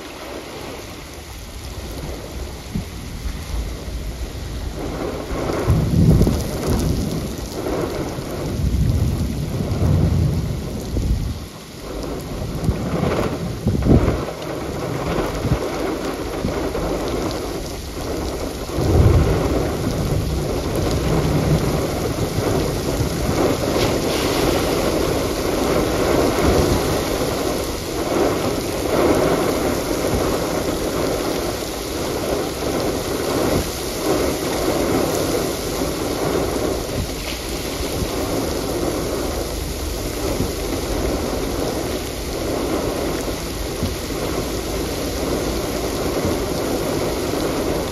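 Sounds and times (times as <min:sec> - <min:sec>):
rain pouring: 0:00.0 - 0:47.9
thunder rumbling: 0:00.0 - 0:47.9.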